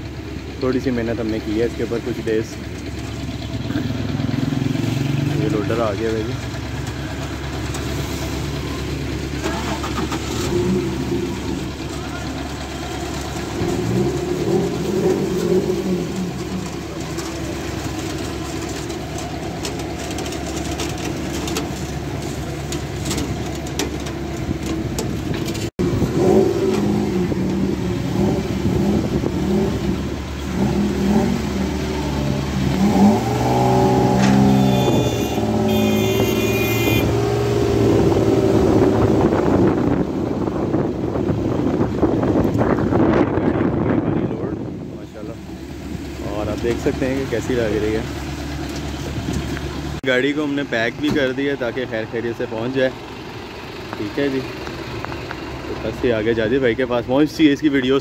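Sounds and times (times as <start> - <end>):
car engine revving: 0.0 - 56.7
street traffic: 0.0 - 58.0.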